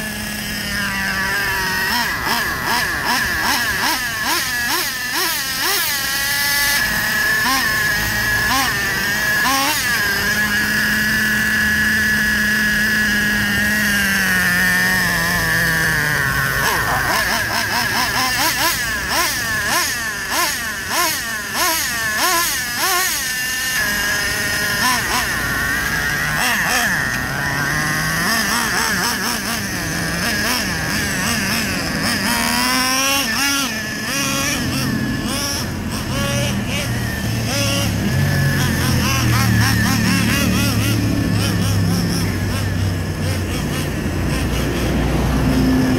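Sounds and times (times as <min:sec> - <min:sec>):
nitro engine high whine: 0:00.0 - 0:45.9.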